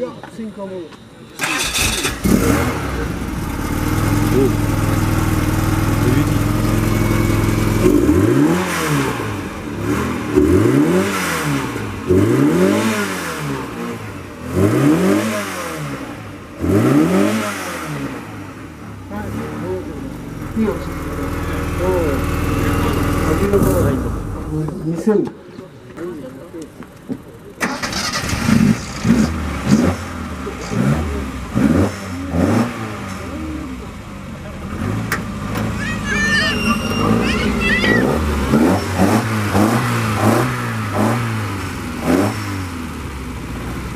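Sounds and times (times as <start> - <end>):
car engine idling and revving: 0.9 - 25.1, 26.2 - 43.9.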